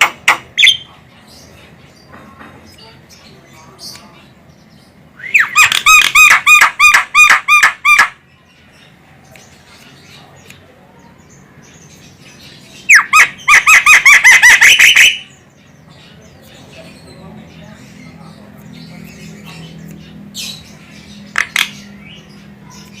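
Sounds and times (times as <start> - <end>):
myna bird calling: 0.0 - 23.0.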